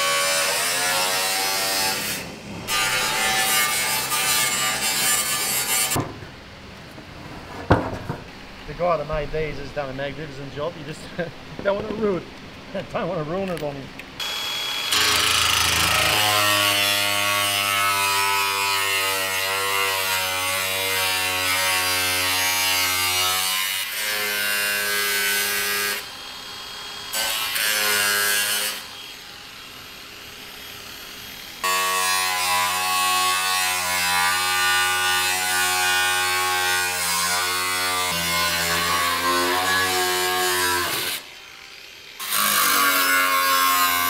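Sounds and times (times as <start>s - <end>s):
angle grinder cutting metal: 0.0s - 6.0s, 14.2s - 44.0s.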